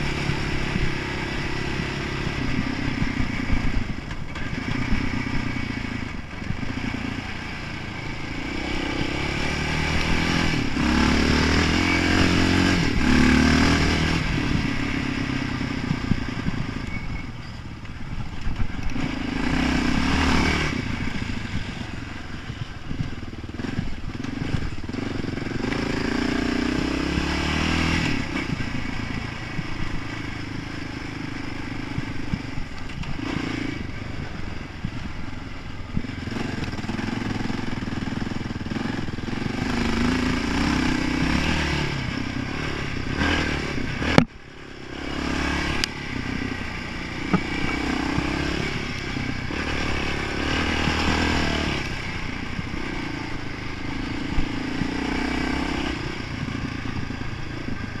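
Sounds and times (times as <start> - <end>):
quad engine revving: 0.0 - 16.9, 18.6 - 58.0
quad rattling over bumps: 0.0 - 58.0.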